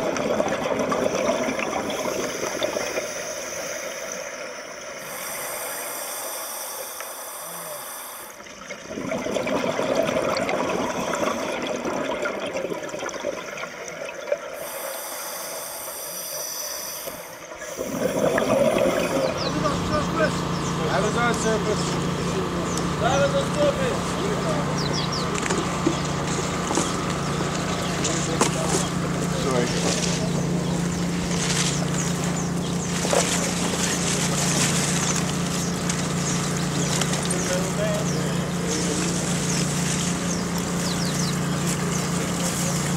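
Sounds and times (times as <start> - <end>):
engine drone: 0.0 - 42.9
underwater bubbling and gurgling: 0.0 - 42.9
water splashing: 0.0 - 42.9.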